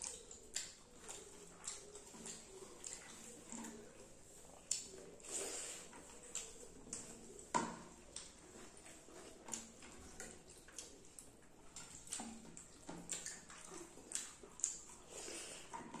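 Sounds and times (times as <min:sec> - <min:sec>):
lip smacks and clicks: 0:00.0 - 0:16.0
wet chewing: 0:00.0 - 0:16.0.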